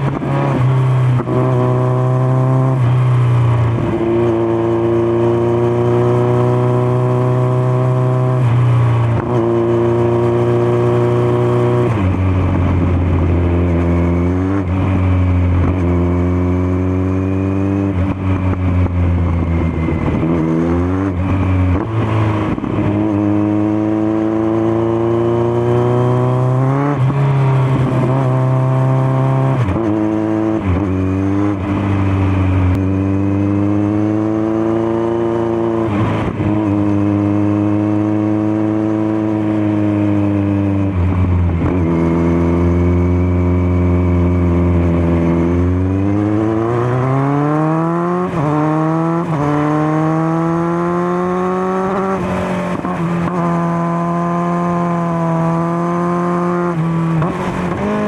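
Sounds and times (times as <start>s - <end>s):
motorcycle engine revving through gears: 0.0s - 58.0s.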